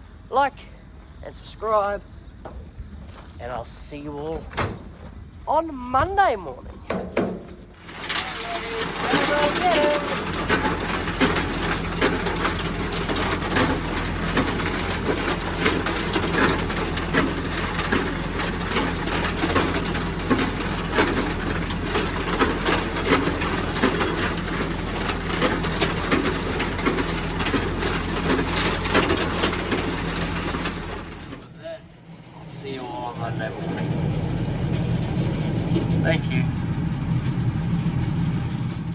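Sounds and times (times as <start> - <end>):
rattling and knocking: 6.9 - 38.9
tractor engine running: 7.5 - 38.9.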